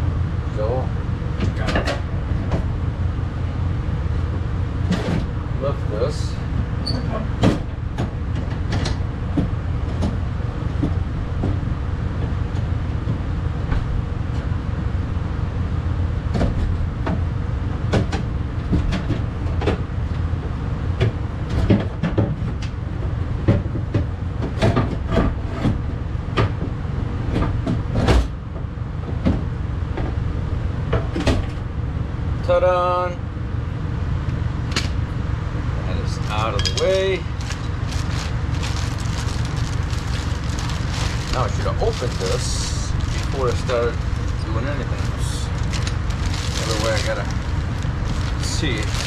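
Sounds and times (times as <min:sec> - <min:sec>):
steady low rumble: 0:00.0 - 0:21.5, 0:25.8 - 0:49.0.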